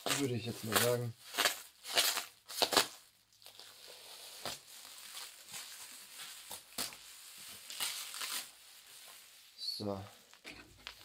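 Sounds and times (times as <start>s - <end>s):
plastic wrap crinkling and tearing: 0.0s - 11.0s.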